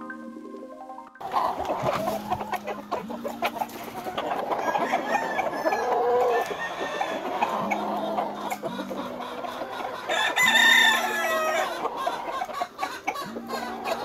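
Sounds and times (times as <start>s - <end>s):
chickens clucking: 0.0s - 14.0s
roosters crowing: 1.2s - 14.0s.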